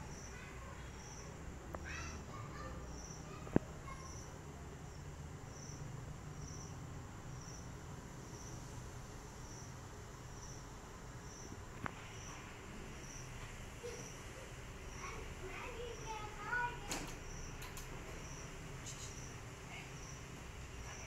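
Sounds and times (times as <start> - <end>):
cricket chirping: 0.0 - 14.3, 14.9 - 21.0.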